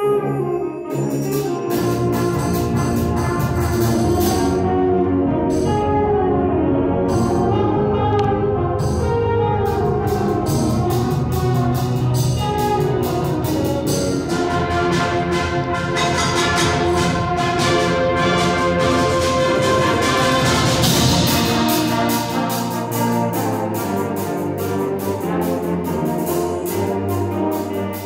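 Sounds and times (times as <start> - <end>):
concert band playing: 0.0 - 28.0
percussion strikes: 0.9 - 4.7, 7.1 - 28.0.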